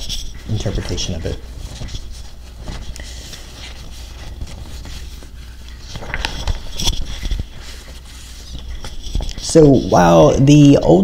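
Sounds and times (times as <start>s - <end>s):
paper rustling and crackling: 0.0s - 10.0s
steady low hum: 0.0s - 11.0s.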